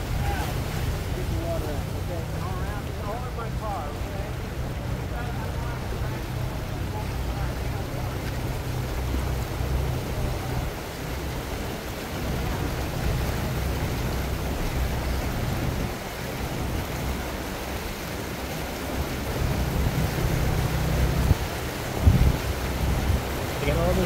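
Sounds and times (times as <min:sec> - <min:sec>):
constant rushing noise: 0:00.0 - 0:24.0.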